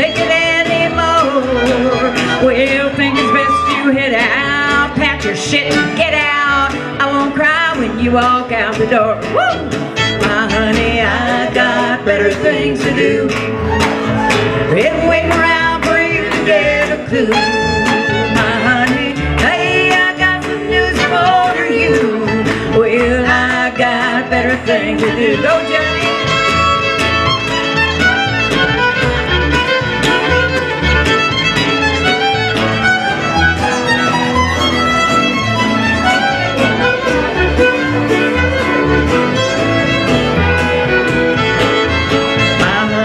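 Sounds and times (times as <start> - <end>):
acoustic guitar: 0.0 - 43.0
melodic lead line: 0.0 - 43.0
upright bass: 0.0 - 43.0.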